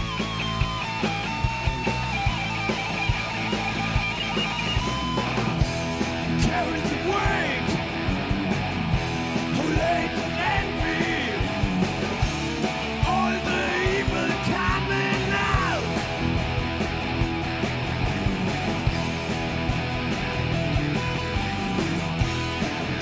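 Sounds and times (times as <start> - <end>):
bass guitar: 0.0 - 23.0
bending lead guitar line: 0.0 - 23.0
distorted electric guitars: 0.0 - 23.0
drums: 0.0 - 23.0.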